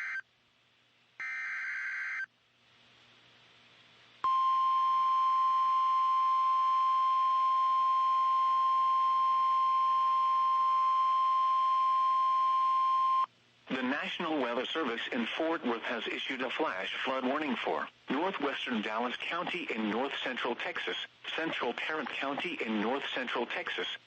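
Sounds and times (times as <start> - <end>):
faint static: 0.0 - 1.5, 2.3 - 24.0.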